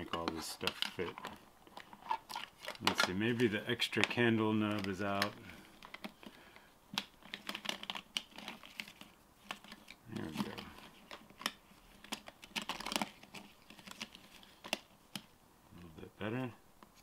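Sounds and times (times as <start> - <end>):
light crinkling: 0.0 - 17.0.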